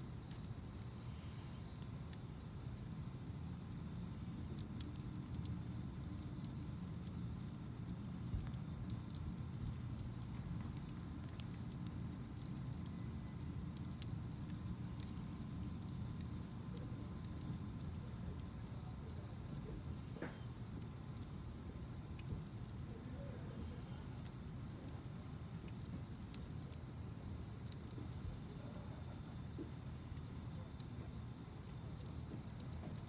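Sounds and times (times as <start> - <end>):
campfire crackling and popping: 0.0 - 33.0
low rumble of flames: 0.0 - 33.0.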